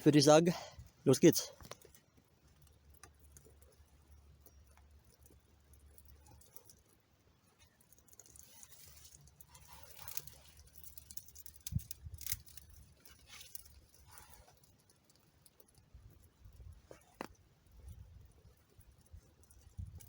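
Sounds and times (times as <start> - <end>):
campfire scrapes and crackles: 0.0 - 20.0.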